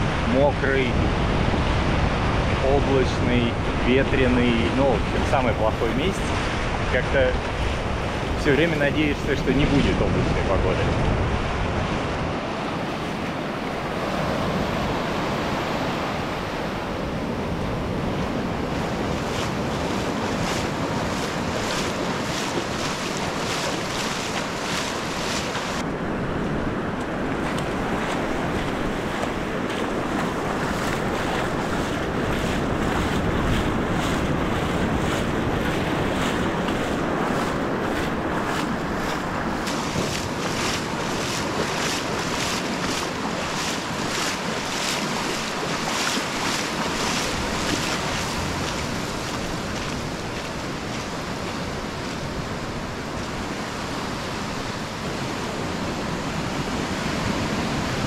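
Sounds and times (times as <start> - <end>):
ocean surf on a beach: 0.0 - 58.0
wind buffeting microphone: 0.0 - 58.0.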